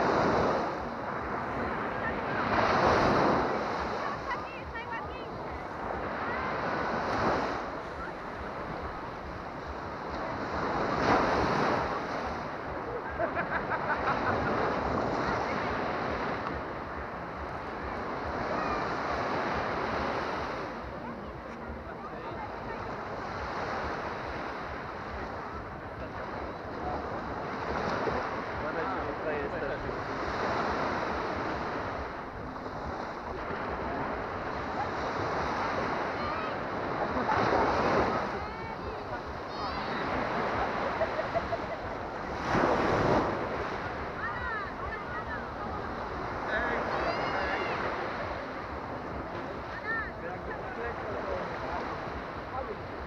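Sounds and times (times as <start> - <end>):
small waves breaking on sand: 0.0 - 53.0.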